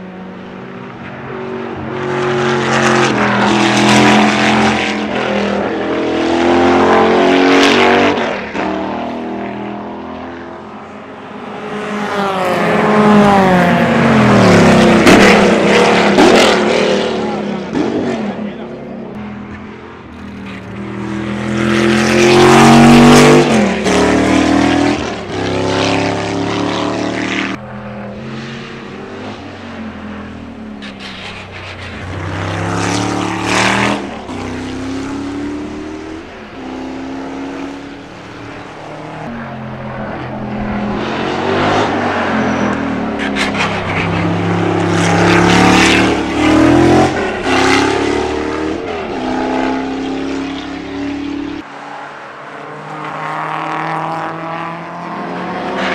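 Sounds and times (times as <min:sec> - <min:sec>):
race car engine passing: 0:00.1 - 0:55.9.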